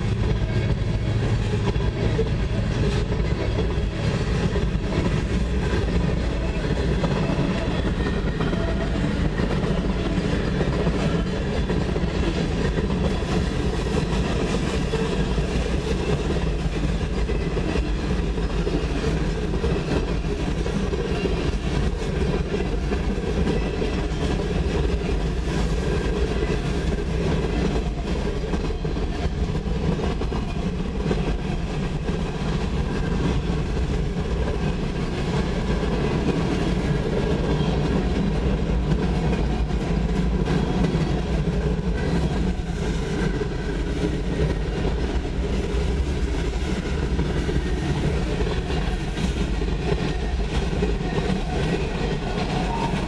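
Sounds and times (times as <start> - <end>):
steel wheels on rails: 0.0 - 53.0.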